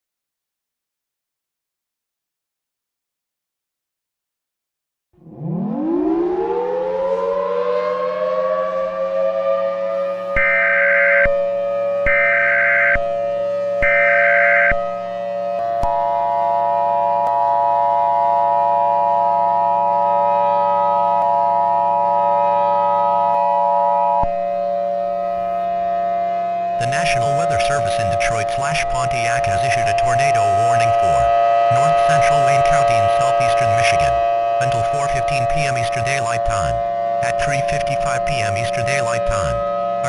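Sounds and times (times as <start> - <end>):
warning siren winding up: 5.2 - 40.0.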